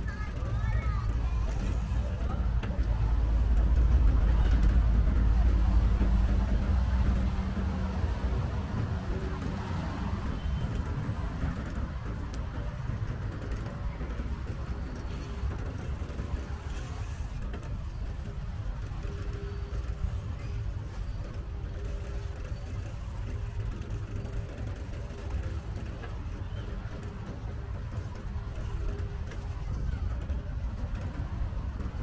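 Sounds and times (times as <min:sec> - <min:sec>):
motor traffic: 0:00.0 - 0:32.0
wind and road noise: 0:00.0 - 0:32.0.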